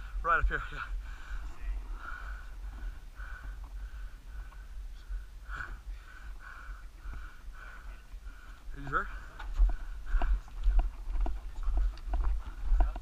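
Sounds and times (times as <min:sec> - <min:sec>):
footsteps on dirt road: 0:00.0 - 0:13.0.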